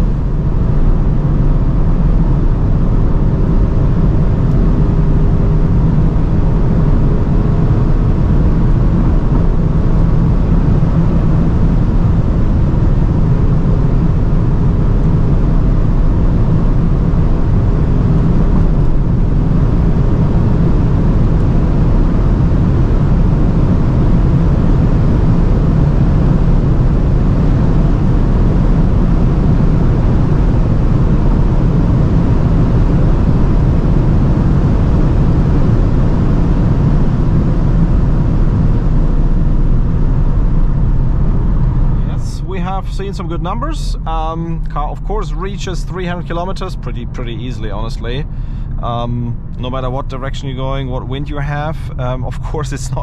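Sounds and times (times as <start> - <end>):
car engine drone: 0.0 - 53.0
wind and tyre roar: 0.0 - 53.0.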